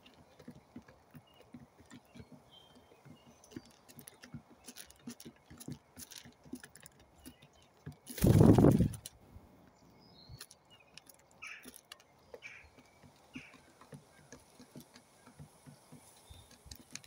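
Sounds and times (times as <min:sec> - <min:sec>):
pigeons pecking grain on wood: 0:00.0 - 0:09.2, 0:10.2 - 0:17.0.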